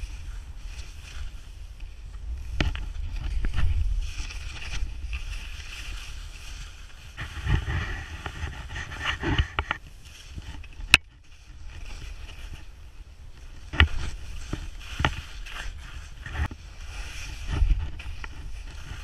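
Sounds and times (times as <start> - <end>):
skis sliding through snow: 0.0 - 19.0
wind buffeting microphone: 0.0 - 19.0.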